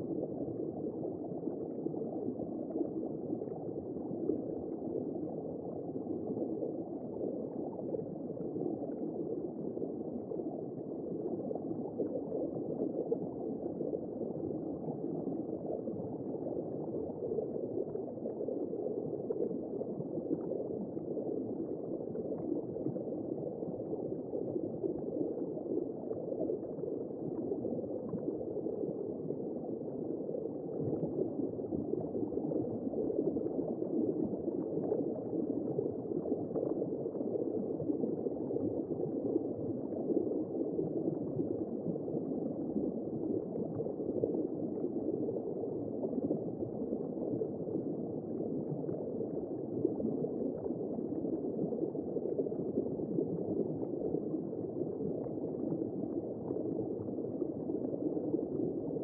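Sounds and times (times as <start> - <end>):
muffled gurgling whooshing noise: 0.0 - 59.0.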